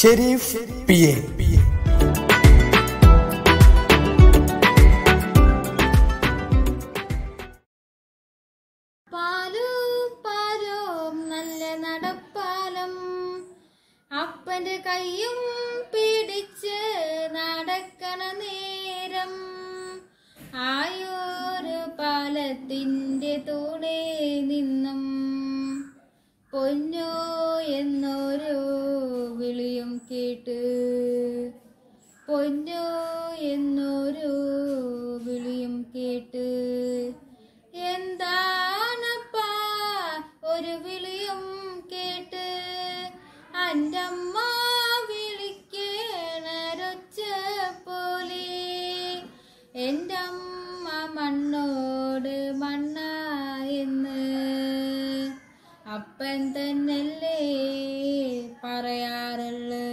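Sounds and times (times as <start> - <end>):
girl singing unaccompanied: 9.1 - 59.9.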